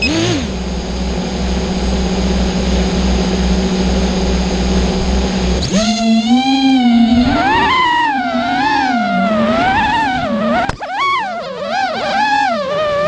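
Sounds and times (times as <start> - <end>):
drone motors humming: 0.0 - 13.0.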